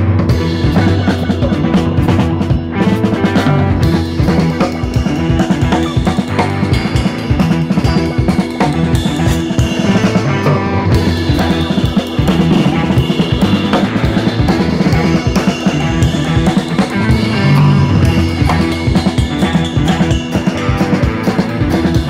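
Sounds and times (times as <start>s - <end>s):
background music: 0.0s - 22.0s
drum kit playing steady beat: 0.0s - 22.0s.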